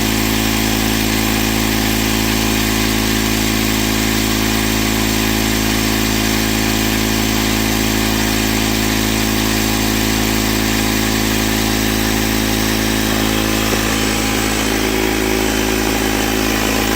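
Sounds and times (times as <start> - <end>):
tire inflator compressor humming: 0.0 - 16.9.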